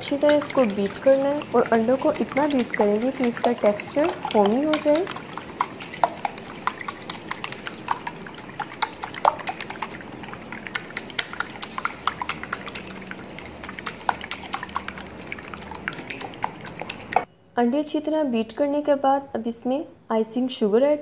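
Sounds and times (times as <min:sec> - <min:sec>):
whisk clicking against glass bowl: 0:00.0 - 0:17.3.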